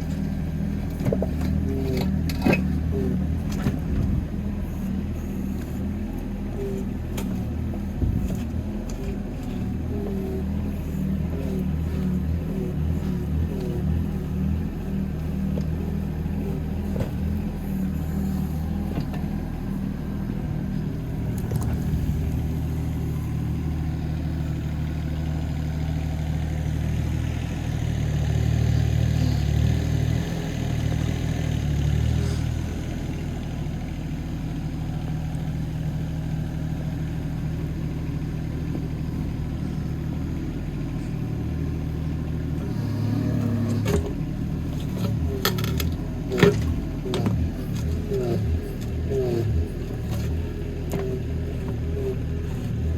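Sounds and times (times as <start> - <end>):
mini excavator diesel engine: 0.0 - 52.9.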